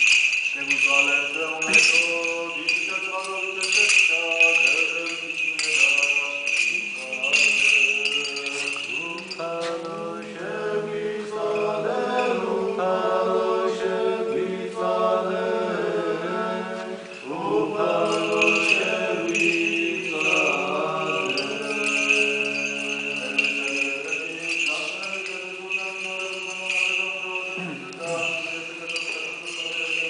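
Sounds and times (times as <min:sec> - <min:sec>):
voices chanting a hymn: 0:00.0 - 0:30.0.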